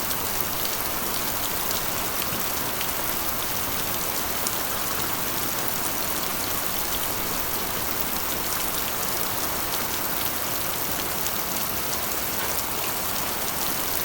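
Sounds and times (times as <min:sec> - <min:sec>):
heavy rain on a metal roof: 0:00.0 - 0:14.0.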